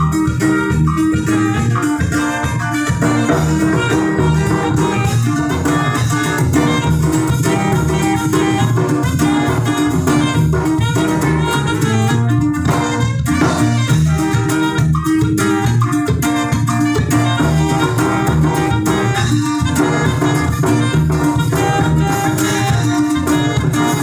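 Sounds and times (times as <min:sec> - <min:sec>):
bass and drums beat: 0:00.0 - 0:24.0
saxophone melody: 0:00.0 - 0:24.0.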